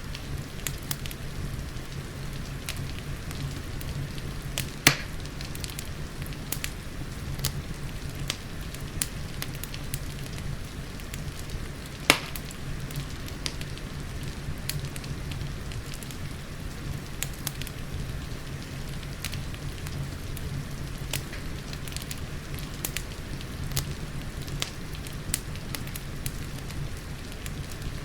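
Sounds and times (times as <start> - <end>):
steady rain: 0.0 - 28.0
wood fire crackling and popping: 0.0 - 28.0.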